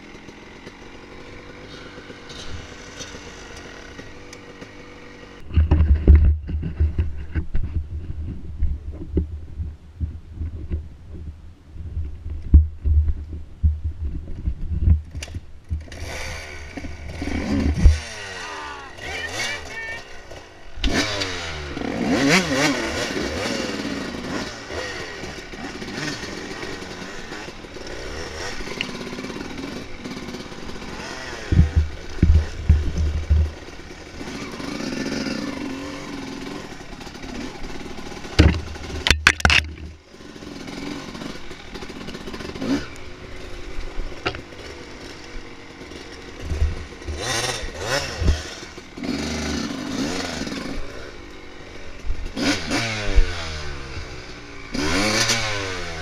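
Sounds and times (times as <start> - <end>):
dirt bike engine revving: 0.0 - 6.9, 15.1 - 56.0.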